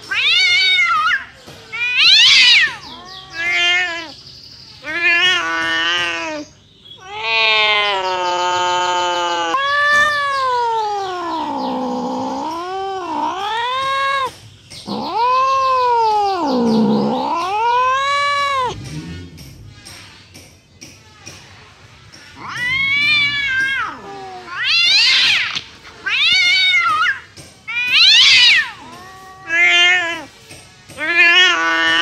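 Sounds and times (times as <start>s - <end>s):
cat yowling angrily: 0.0s - 4.2s, 4.8s - 14.3s, 14.9s - 18.8s, 22.4s - 30.3s, 31.0s - 32.0s.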